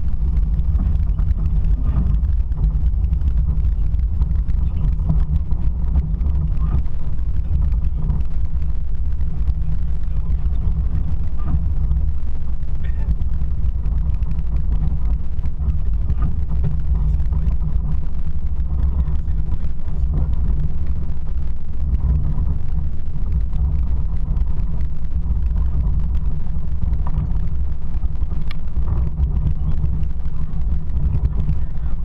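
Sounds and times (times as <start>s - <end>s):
vehicle rumbling on the move: 0.0s - 32.0s.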